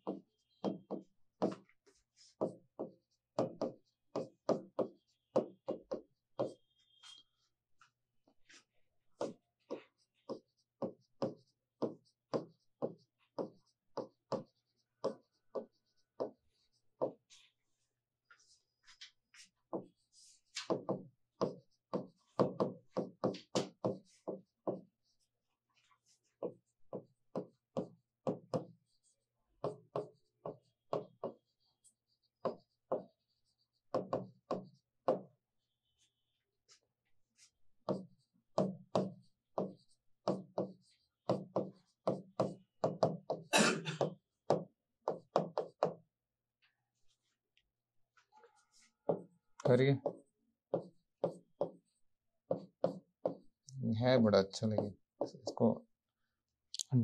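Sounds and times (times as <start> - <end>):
chalk writing on blackboard: 0.0 - 46.1, 48.4 - 53.7.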